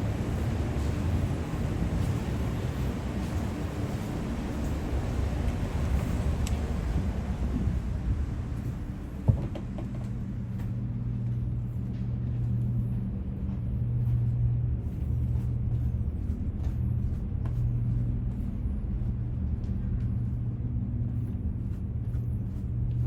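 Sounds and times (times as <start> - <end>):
ship machinery hum: 0.0 - 23.0.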